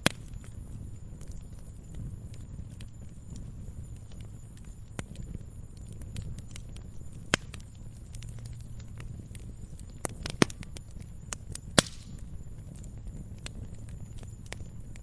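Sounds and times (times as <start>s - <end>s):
campfire crackling: 0.0s - 15.0s
low rumble of flames: 0.0s - 15.0s.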